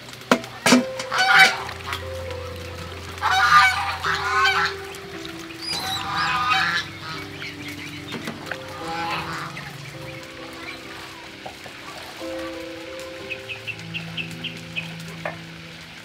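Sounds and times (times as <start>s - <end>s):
faint background music: 0.0s - 16.0s
fowl honking: 0.8s - 15.3s.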